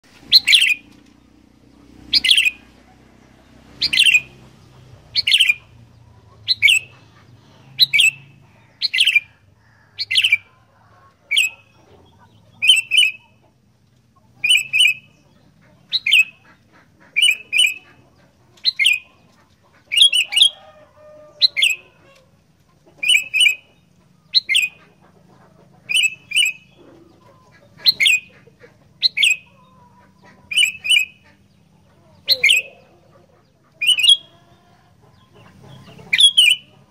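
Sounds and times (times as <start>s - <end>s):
bird sharp calls: 0.1s - 36.9s.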